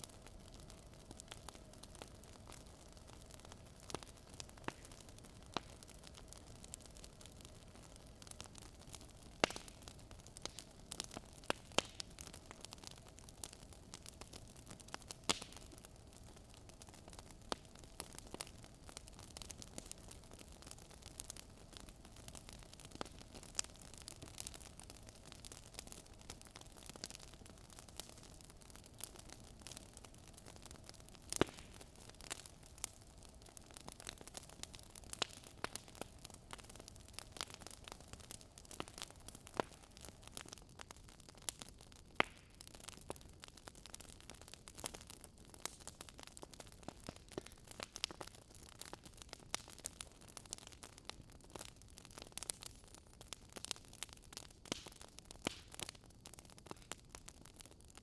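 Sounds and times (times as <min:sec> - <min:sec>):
faint steady hiss: 0:00.0 - 0:51.9
wood fire crackling and popping: 0:00.0 - 0:58.0.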